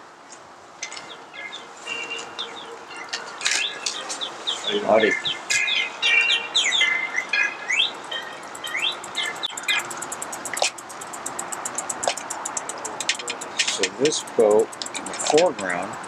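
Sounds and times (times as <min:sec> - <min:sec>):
small birds chirping: 0:00.8 - 0:16.0.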